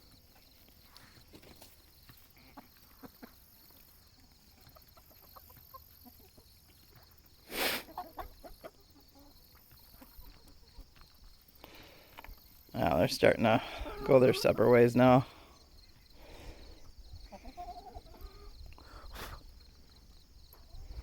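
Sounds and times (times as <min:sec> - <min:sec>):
chickens clucking softly: 0:00.1 - 0:21.0.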